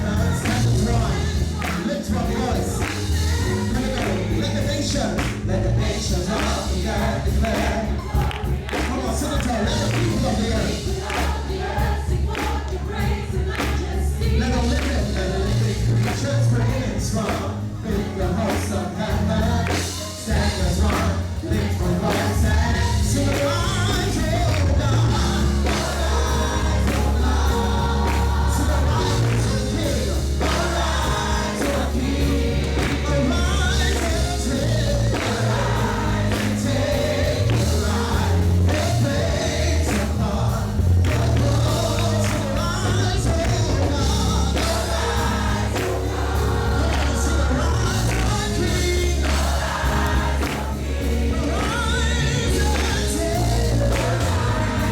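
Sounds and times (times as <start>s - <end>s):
band playing: 0.0s - 54.9s
gospel choir singing: 0.0s - 54.9s.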